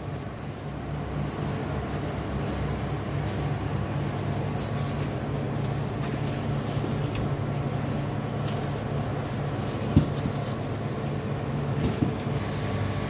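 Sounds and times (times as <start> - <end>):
plastic bags rustling: 0.0 - 12.8
cooling unit humming: 0.0 - 13.0.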